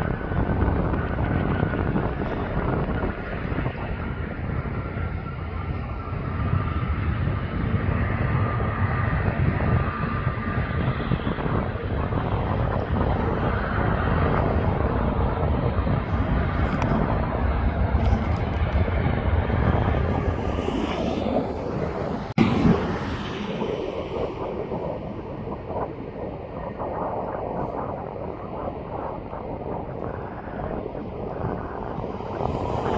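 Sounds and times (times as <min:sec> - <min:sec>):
airliner jet engines: 0:00.0 - 0:32.9.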